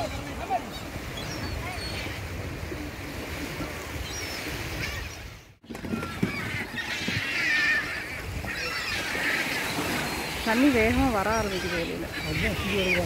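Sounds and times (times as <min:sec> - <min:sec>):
gulls calling: 0:00.0 - 0:13.0
surf: 0:00.0 - 0:13.0
wind: 0:00.0 - 0:13.0.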